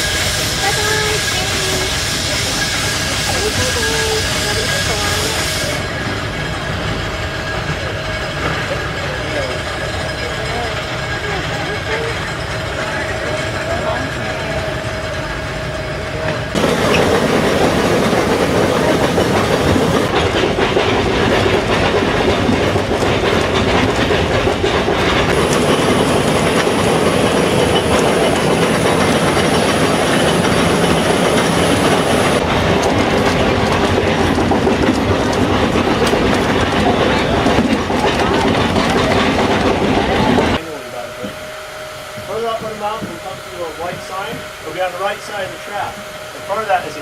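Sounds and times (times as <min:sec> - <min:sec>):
rack train rattling and rumbling: 0:00.0 - 0:47.0.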